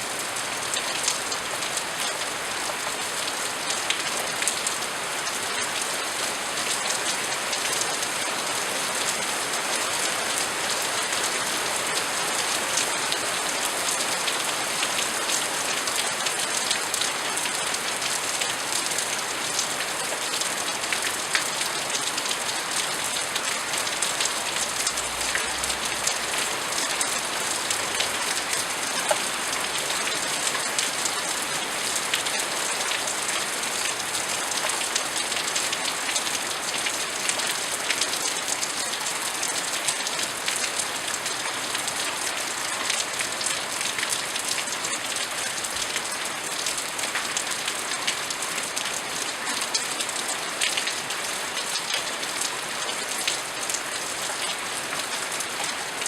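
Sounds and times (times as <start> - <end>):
steady rain falling: 0.0 - 56.0
raindrops ticking on a surface: 10.3 - 56.0.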